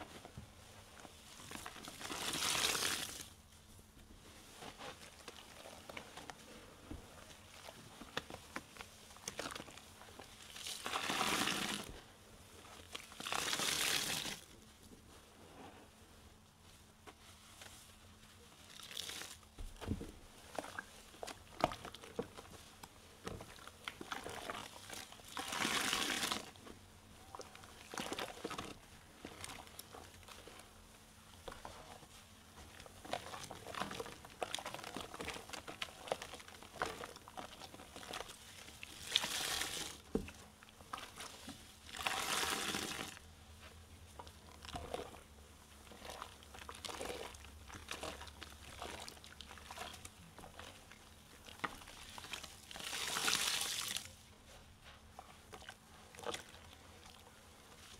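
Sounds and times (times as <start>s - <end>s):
foam crackling and squishing: 0.0s - 14.7s, 16.6s - 57.9s
wet sponge squeezes: 0.0s - 15.2s, 16.6s - 57.9s.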